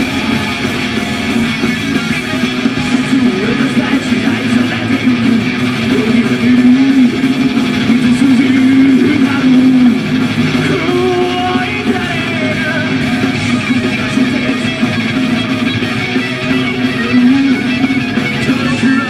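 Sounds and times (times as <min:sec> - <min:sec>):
bass guitar: 0:00.0 - 0:19.0
drums: 0:00.0 - 0:19.0
electric guitars: 0:00.0 - 0:19.0.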